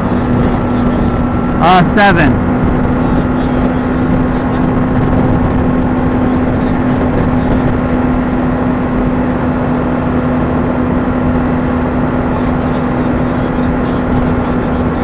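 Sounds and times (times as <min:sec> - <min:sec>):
motorcycle engine running steadily: 0:00.0 - 0:15.0.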